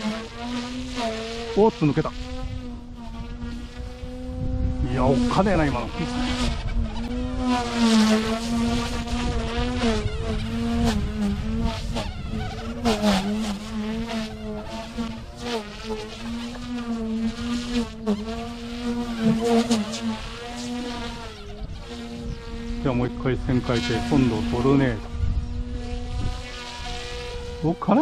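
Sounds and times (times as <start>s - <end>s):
rc helicopter buzzing whine: 0.0s - 28.0s.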